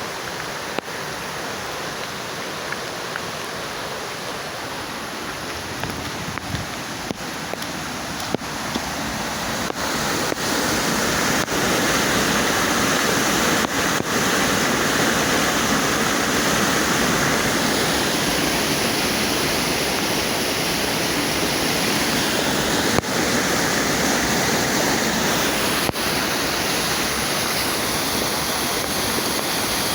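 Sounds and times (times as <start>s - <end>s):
water rushing: 0.0s - 29.9s.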